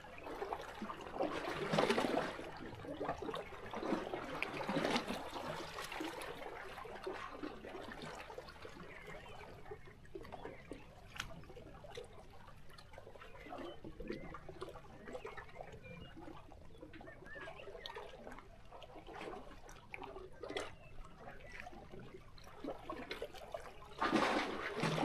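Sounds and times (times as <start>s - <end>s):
waves lapping against rocks: 0.0s - 25.0s.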